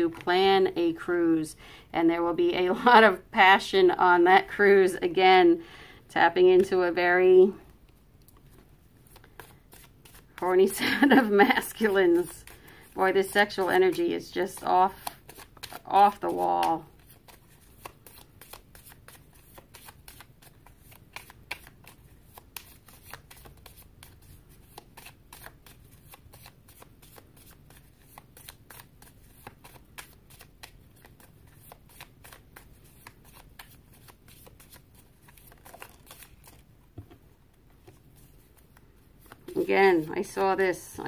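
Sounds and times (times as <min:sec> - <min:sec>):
cards being shuffled: 0:07.8 - 0:40.7.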